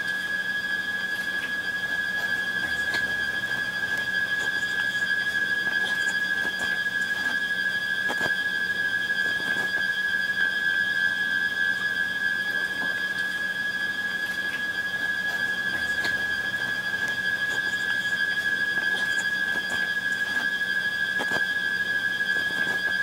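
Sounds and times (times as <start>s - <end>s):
high-pitched electronic tone: 0.0s - 23.0s.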